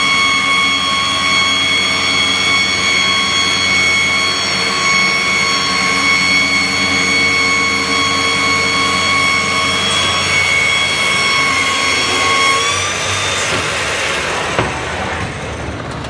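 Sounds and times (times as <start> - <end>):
drilling machine motor whine: 0.0 - 16.0.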